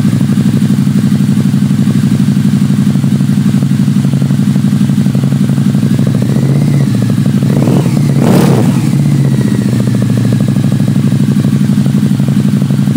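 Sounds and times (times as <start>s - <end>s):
motorcycle engine idling: 0.0s - 12.9s.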